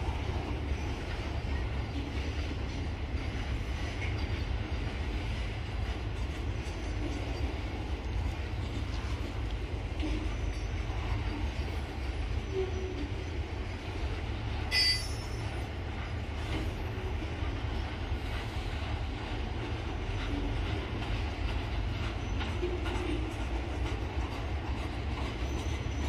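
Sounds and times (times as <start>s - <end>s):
train rolling past rumbling: 0.0s - 26.0s.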